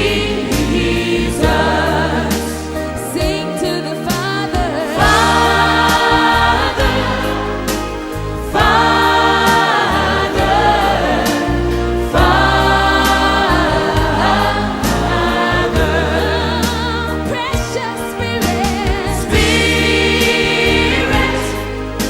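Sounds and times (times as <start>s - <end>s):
bass and instrumental backing: 0.0s - 22.0s
choir singing gospel: 0.0s - 22.0s.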